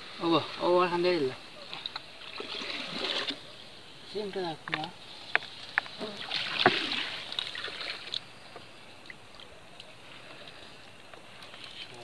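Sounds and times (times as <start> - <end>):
water splashing: 0.0 - 3.7, 5.5 - 12.0
low hiss: 0.0 - 12.0.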